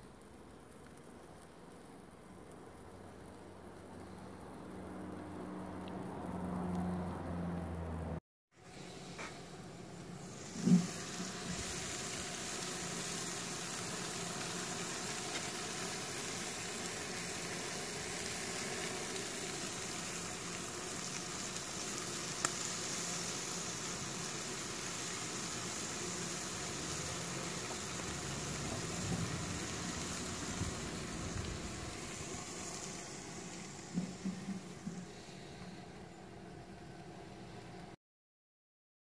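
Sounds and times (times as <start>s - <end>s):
chicken sizzling on grill: 0.0s - 37.9s.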